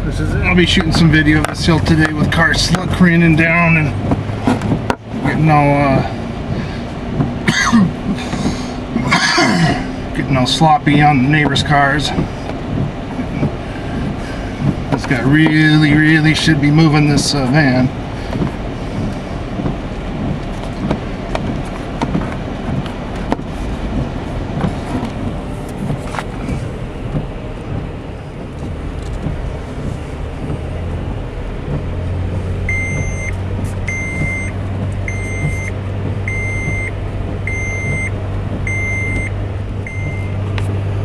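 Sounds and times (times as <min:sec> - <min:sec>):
engine rumble driving through snow: 0:00.0 - 0:41.0.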